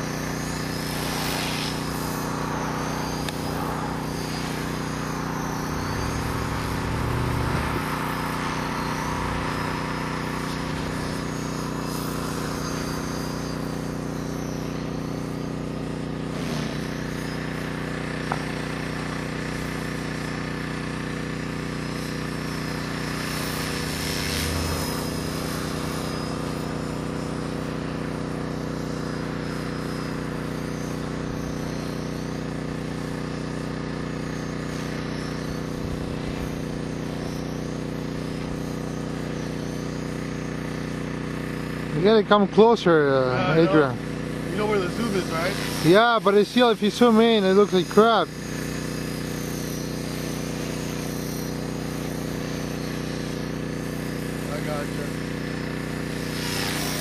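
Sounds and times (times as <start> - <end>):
rc helicopter buzzing: 0.0 - 57.0.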